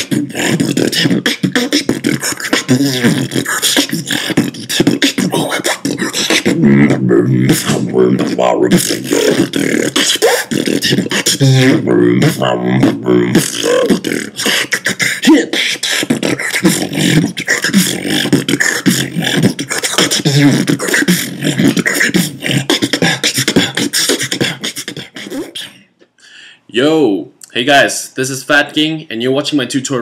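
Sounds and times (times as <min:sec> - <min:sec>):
person beatboxing: 0:00.0 - 0:25.9
hummed vocal tones: 0:00.0 - 0:26.1.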